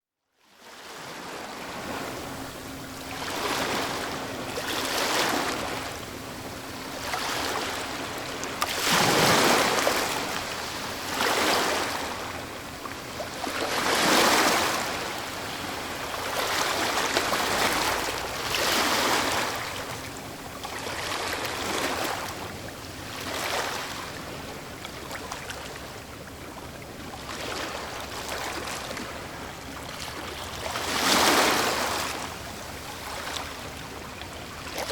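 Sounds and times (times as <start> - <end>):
ocean waves breaking: 0.6 - 34.9.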